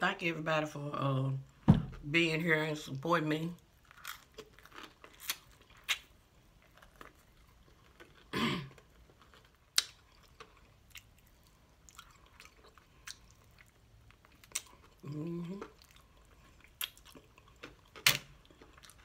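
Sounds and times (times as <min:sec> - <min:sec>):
chewing fried chicken: 0:03.6 - 0:19.0.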